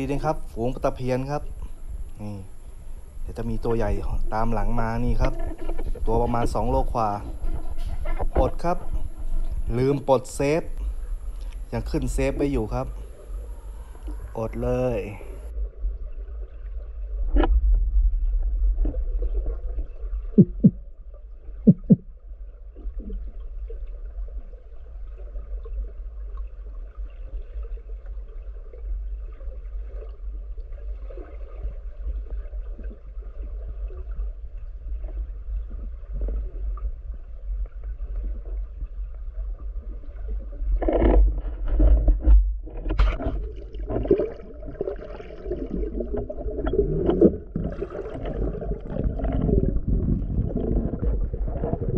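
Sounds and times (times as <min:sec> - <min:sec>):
underwater water rumble: 0:00.0 - 0:51.9.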